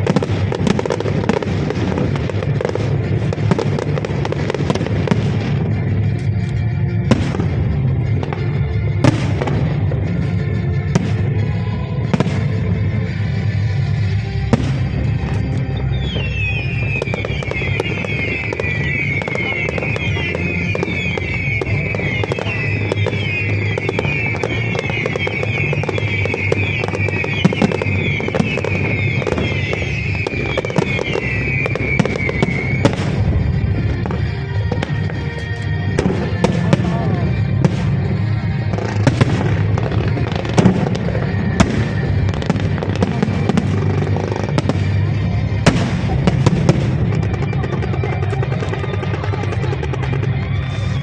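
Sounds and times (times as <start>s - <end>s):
firework bangs and cracks: 0.0s - 51.0s
music playing: 0.0s - 51.0s
whistling firework shells: 0.0s - 51.0s.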